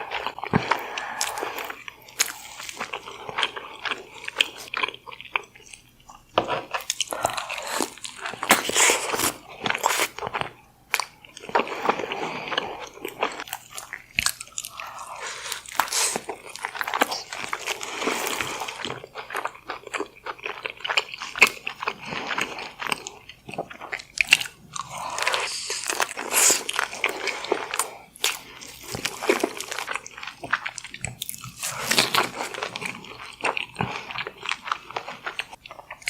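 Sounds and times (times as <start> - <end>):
chewing: 0.0 - 36.0.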